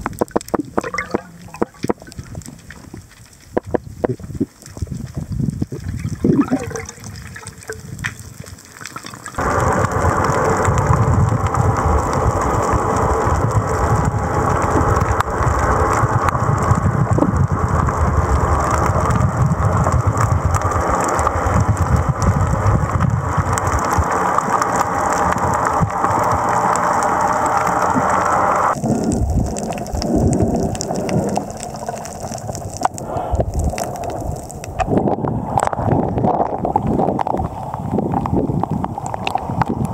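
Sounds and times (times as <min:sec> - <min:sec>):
underwater rushing water: 0:00.0 - 0:39.9.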